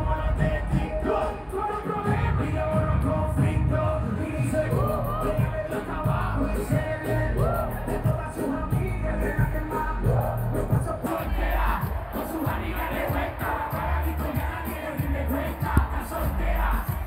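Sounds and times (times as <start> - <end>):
crowd shouting and singing: 0.0 - 17.0
reggaeton over sound system: 0.0 - 17.0.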